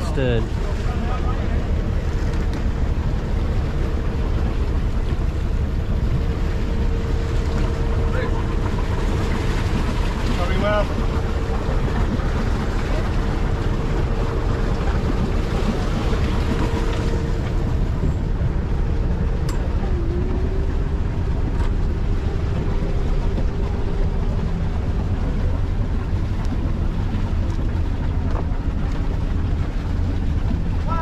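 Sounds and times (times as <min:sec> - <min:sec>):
boat engine rumbling: 0:00.0 - 0:31.0.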